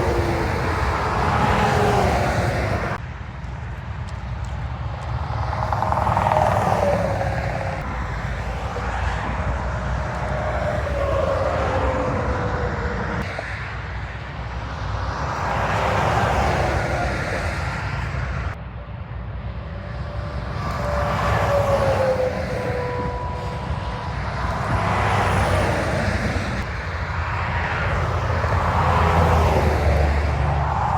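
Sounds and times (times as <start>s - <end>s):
low traffic rumble: 0.0s - 30.9s
trucks passing on highway: 0.0s - 30.9s.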